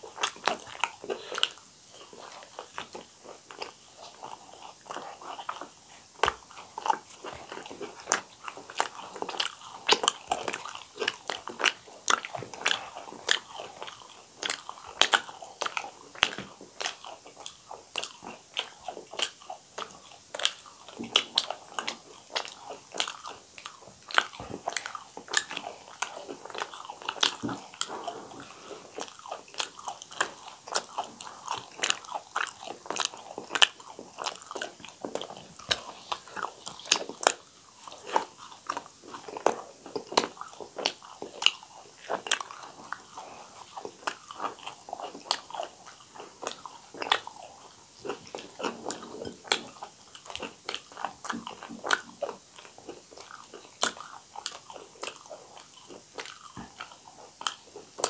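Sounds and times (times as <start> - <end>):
people crunching fried food: 0.0 - 58.0.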